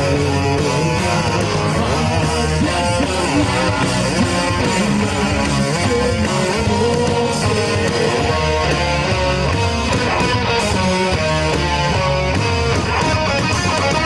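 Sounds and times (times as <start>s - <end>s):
bass guitar: 0.0s - 14.0s
drums: 0.0s - 14.0s
electric guitars: 0.0s - 14.0s.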